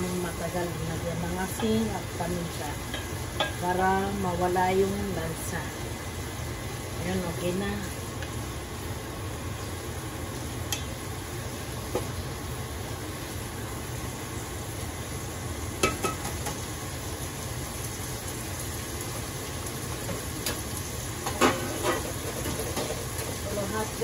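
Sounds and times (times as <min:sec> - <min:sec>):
meat and onion sizzling: 0:00.0 - 0:24.0.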